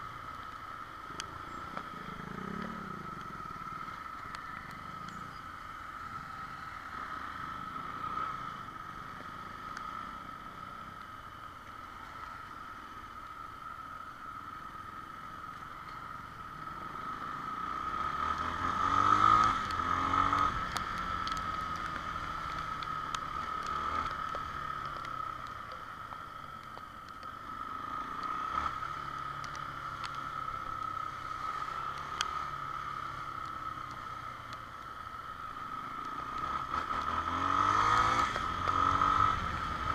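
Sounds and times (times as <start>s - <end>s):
motorcycle engine and road noise: 0.0s - 39.9s.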